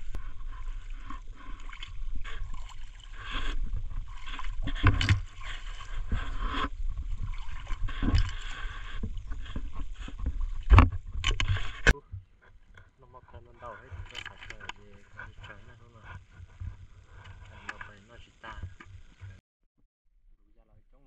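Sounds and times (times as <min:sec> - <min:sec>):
water sloshing from wading: 0:00.0 - 0:19.4.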